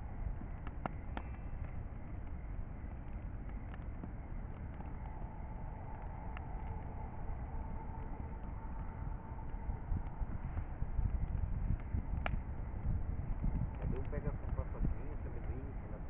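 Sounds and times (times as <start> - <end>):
bonfire crackling and popping: 0.0 - 16.0
low rumble: 0.0 - 16.0.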